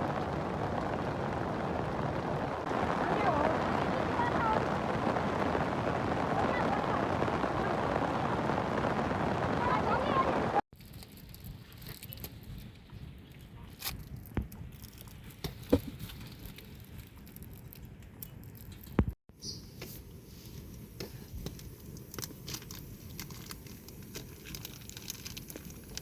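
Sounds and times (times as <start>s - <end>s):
rain pattering: 0.0s - 13.0s, 14.0s - 19.2s, 20.5s - 26.0s.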